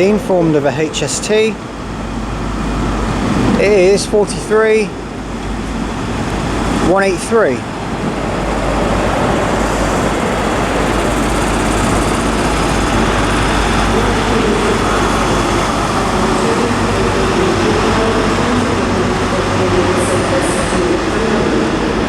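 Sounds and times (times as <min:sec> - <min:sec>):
diesel train engine drone: 0:00.0 - 0:22.0
wheel and rail noise: 0:00.0 - 0:22.0.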